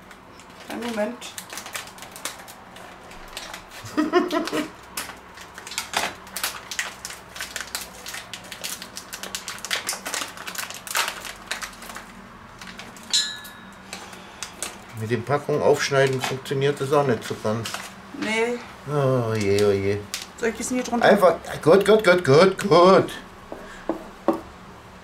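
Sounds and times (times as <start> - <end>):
packaging crinkling and rustling: 0.0 - 13.2, 13.8 - 18.1, 19.2 - 22.4.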